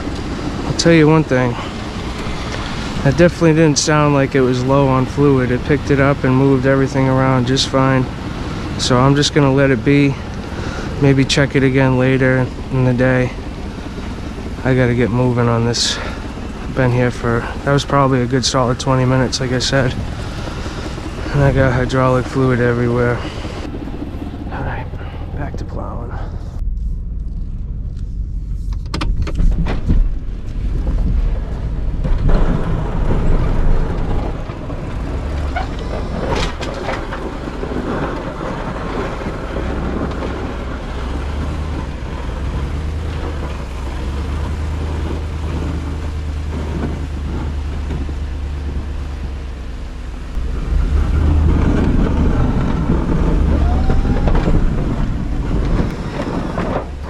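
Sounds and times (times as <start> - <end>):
plow blade pushing snow: 0.0 - 26.6, 29.4 - 57.0
truck engine running: 0.0 - 57.0.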